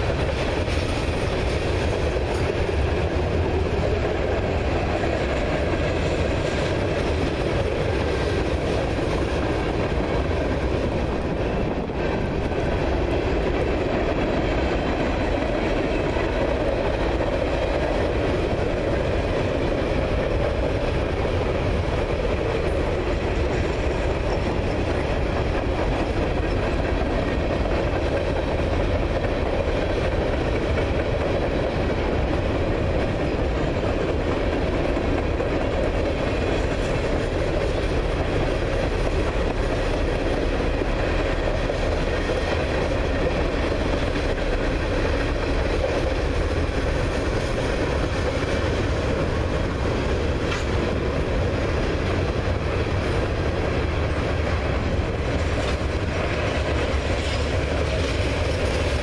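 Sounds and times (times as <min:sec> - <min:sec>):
freight train rolling past: 0:00.0 - 0:59.0
steel wheels on rail: 0:00.0 - 0:59.0
wheels clicking over rail joints: 0:00.0 - 0:59.0.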